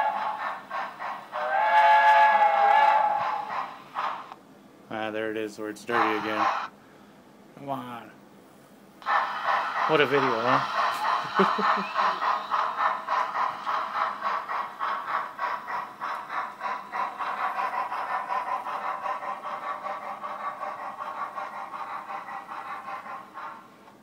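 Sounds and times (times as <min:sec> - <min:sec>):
model locomotive steam chuffs: 0:00.0 - 0:06.8, 0:09.0 - 0:24.0.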